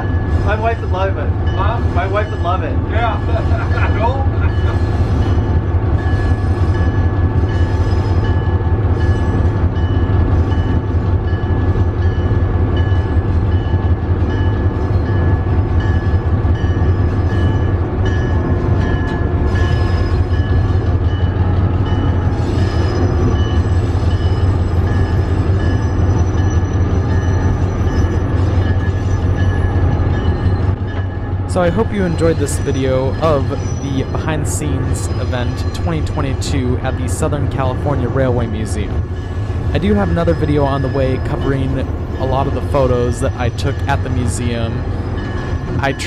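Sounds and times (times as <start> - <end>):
electric locomotive rumbling: 0.0 - 46.0.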